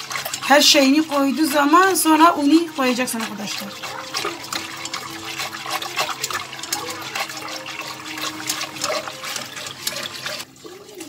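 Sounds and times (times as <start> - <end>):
liquid sloshing in a pot: 0.0 - 11.0
whisk clicking and scraping a pot: 0.0 - 11.0.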